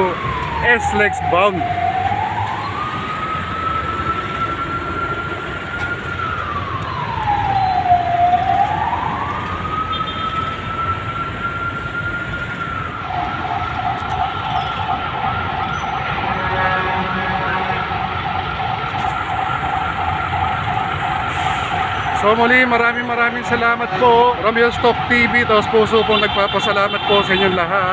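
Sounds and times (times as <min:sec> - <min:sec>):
emergency vehicle siren: 0:00.0 - 0:27.9
traffic noise: 0:00.0 - 0:27.9.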